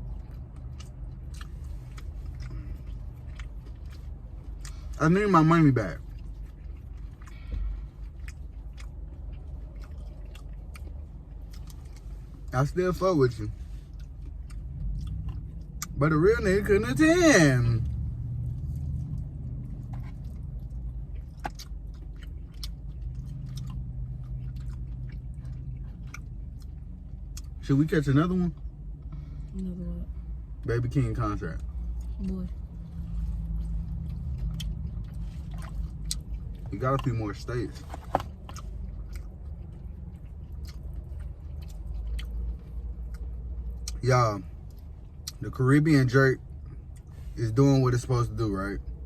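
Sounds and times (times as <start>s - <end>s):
person chewing: 0.0s - 16.1s, 17.8s - 27.6s, 31.6s - 45.4s
steady low hum: 0.0s - 49.0s.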